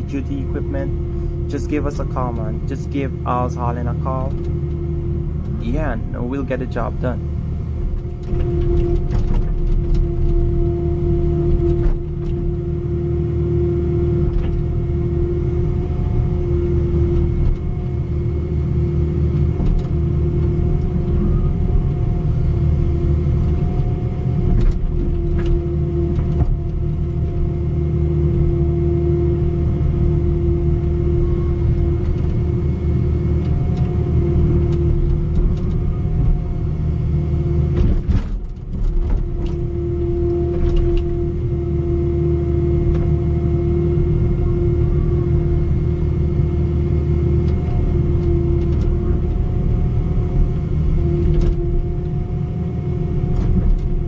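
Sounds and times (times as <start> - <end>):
excavator engine humming: 0.0 - 54.0.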